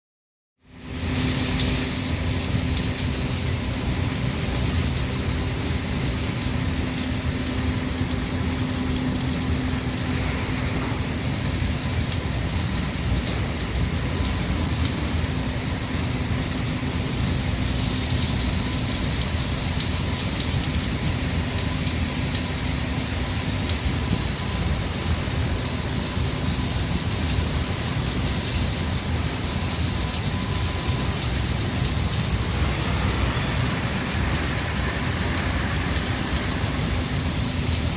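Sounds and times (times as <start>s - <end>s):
welding arc crackling: 0.7s - 37.9s.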